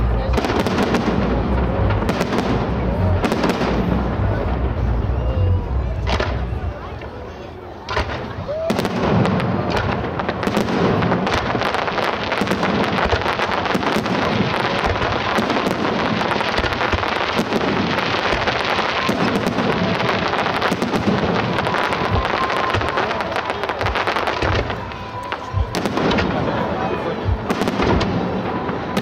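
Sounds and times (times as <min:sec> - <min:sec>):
deep fireworks bangs: 0:00.0 - 0:29.0
fireworks crackling: 0:00.0 - 0:29.0.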